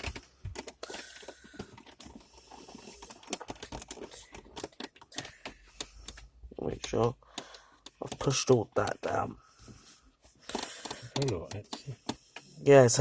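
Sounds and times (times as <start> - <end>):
plastic trim clicks and rustles: 0.0 - 9.2, 10.4 - 12.4.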